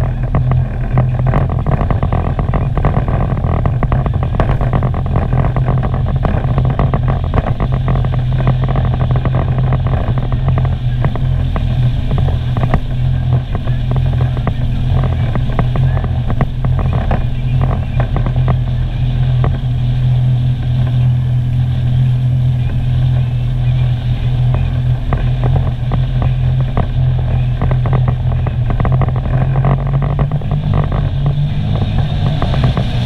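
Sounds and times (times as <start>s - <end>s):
rapid crackling: 0.0s - 33.0s
watercraft engine droning: 0.0s - 33.0s.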